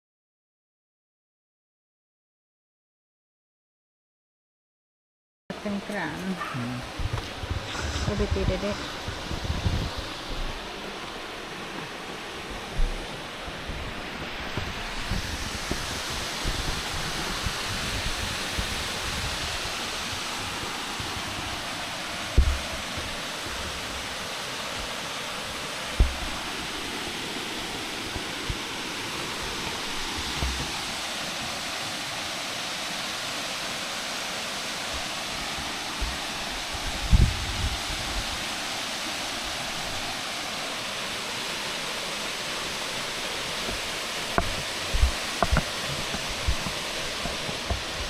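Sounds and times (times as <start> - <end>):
waterfall rushing: 5.6 - 48.0.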